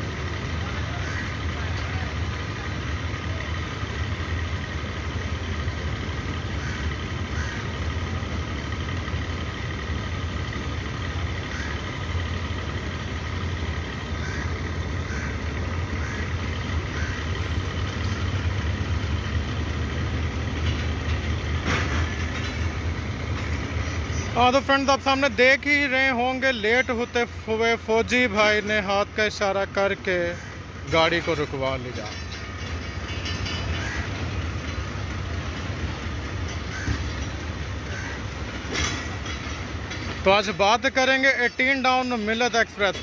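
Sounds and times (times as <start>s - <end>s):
train diesel engine rumbling: 0.0s - 43.0s.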